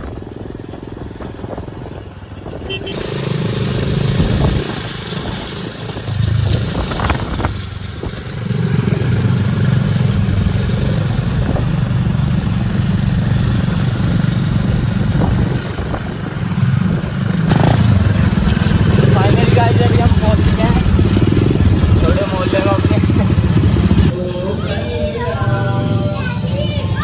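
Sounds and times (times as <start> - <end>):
motorcycle engine running: 0.0 - 24.2.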